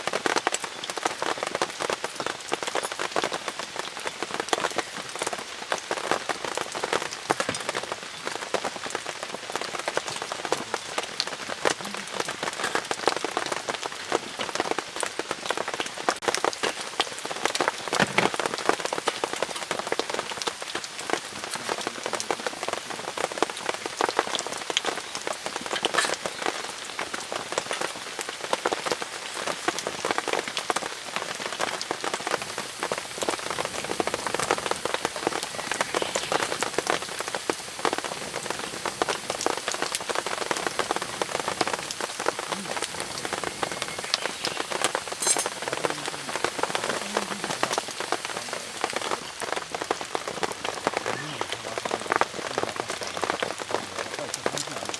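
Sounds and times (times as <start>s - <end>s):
rain pattering on tent fabric: 0.0s - 54.9s.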